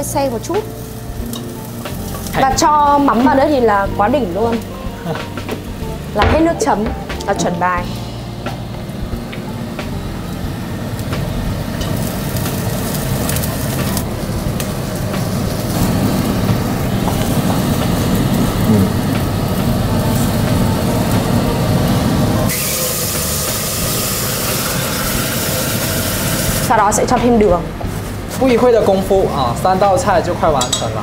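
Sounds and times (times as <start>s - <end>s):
food sizzling in a frying pan: 0.0s - 28.6s.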